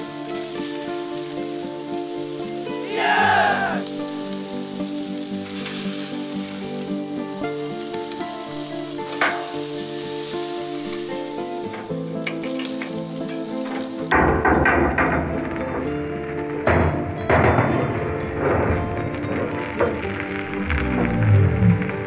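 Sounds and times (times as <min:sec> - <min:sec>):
meat sizzling on a grill: 0:00.0 - 0:14.3, 0:18.3 - 0:22.0
background music of held chords: 0:00.0 - 0:22.0.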